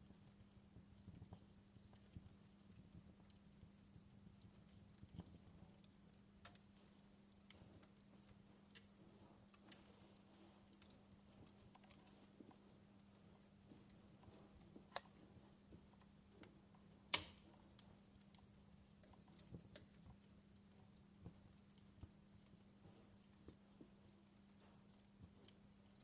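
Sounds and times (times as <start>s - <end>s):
fire snaps and pops: 0.0s - 26.0s
wood fire crackling: 0.0s - 26.0s.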